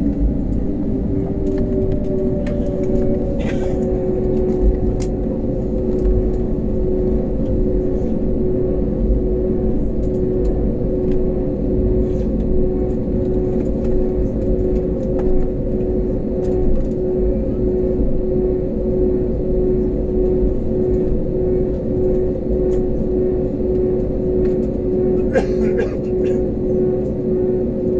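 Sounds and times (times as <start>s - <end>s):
constant droning hum: 0.0s - 27.9s
jet engines rumbling: 0.0s - 27.9s.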